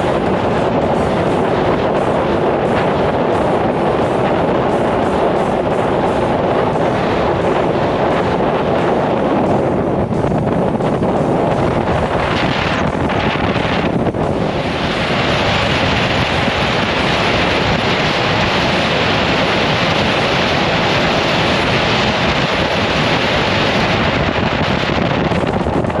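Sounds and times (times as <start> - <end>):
road noise: 0.0 - 26.0
wind rushing over microphone: 0.0 - 26.0.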